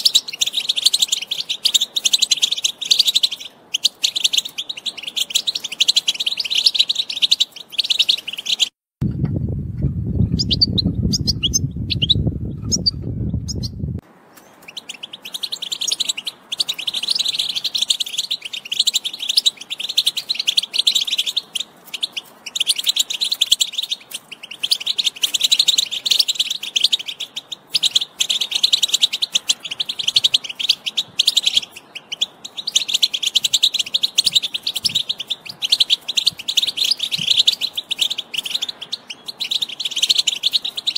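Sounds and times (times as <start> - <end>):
scattered bird chirps: 0.0 - 8.8, 10.0 - 40.9
bird twittering song: 0.0 - 40.9.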